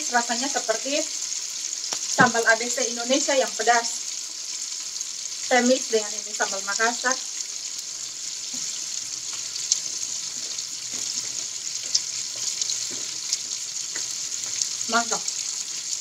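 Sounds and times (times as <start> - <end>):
hot oil sizzling: 0.0 - 16.0
oil crackles and pops: 0.1 - 16.0.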